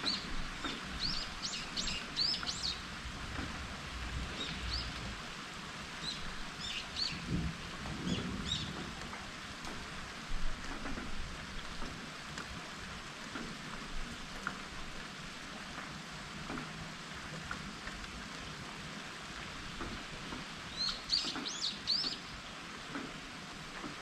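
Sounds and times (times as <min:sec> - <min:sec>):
raindrop taps: 0:00.0 - 0:03.8, 0:06.0 - 0:18.5, 0:19.3 - 0:24.0
rain hiss: 0:00.0 - 0:24.0.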